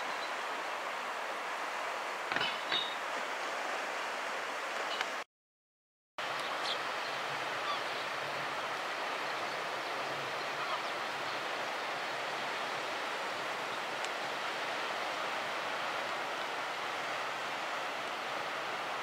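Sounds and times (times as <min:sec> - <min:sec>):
distant surf on beach: 0:00.0 - 0:05.2, 0:06.2 - 0:19.0.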